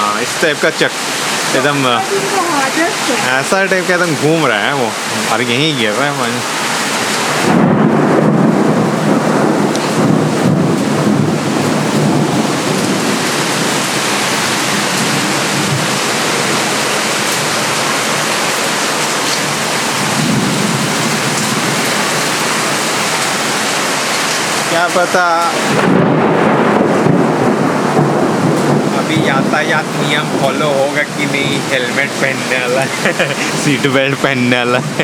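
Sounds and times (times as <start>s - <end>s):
heavy rain pouring: 0.0s - 35.0s
thunder rolling: 1.5s - 35.0s.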